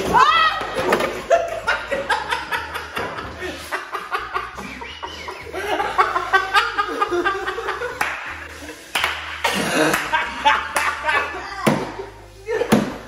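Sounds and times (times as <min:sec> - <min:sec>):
people laughing together: 0:01.1 - 0:12.7.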